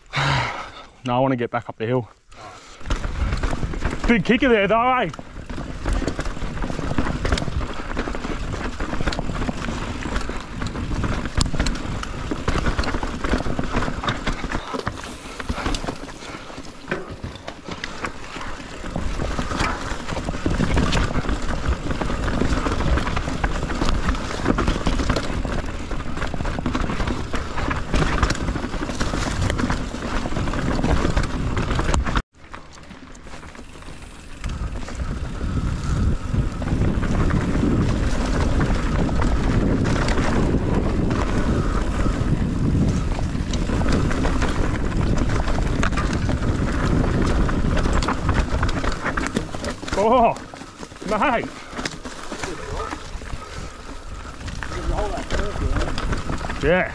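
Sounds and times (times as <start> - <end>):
bike tyres on dirt: 0.0 - 56.9
bike chain and frame rattling: 2.6 - 56.9
wind rumbling on microphone: 2.8 - 32.2, 32.9 - 56.9.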